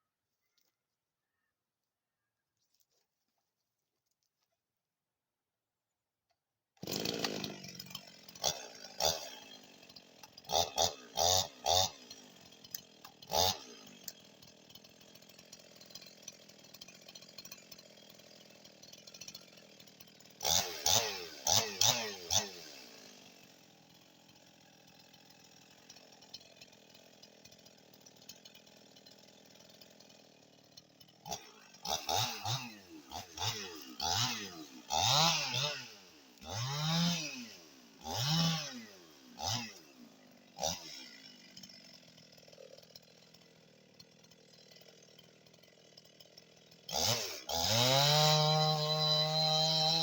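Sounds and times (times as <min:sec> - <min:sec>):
chainsaw revving: 0:06.8 - 0:50.0.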